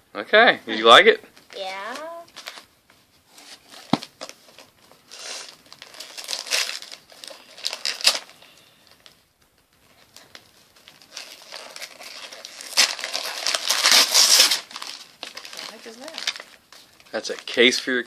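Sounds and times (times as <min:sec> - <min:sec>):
gift wrapping crinkling: 0:00.7 - 0:18.0.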